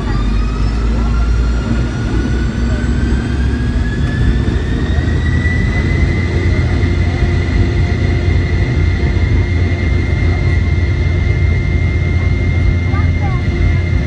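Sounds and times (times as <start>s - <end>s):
jet engine whine and rumble: 0.0s - 14.0s.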